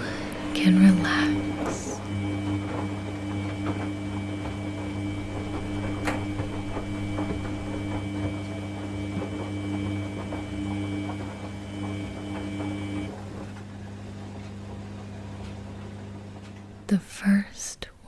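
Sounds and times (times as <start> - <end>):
washing machine motor hum: 0.0 - 17.3.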